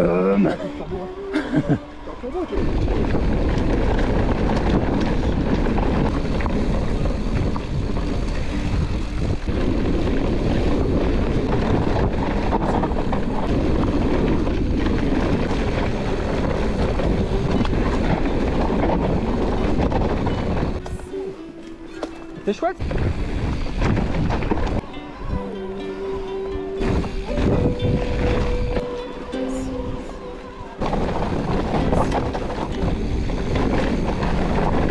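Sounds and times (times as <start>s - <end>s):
bike rumbling over rough ground: 0.0s - 34.9s
wind buffeting microphone: 0.0s - 34.9s.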